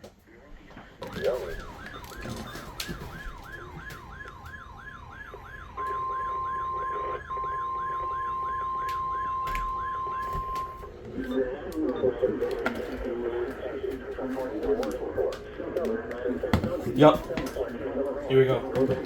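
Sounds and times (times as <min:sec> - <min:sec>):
steady warning tone: 0:00.4 - 0:19.0
electronic siren sweeping: 0:00.9 - 0:18.7.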